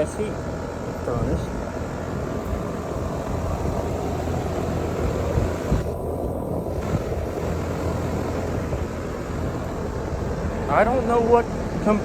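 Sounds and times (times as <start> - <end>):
air conditioner humming: 0.0 - 12.0
fan rushing: 0.0 - 12.0.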